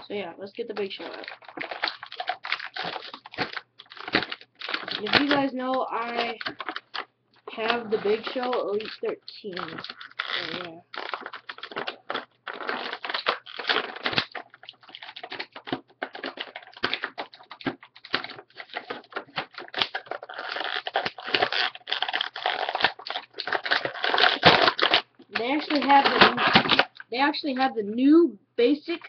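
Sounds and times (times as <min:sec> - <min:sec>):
plastic and cardboard packaging crinkling: 0:00.0 - 0:27.7.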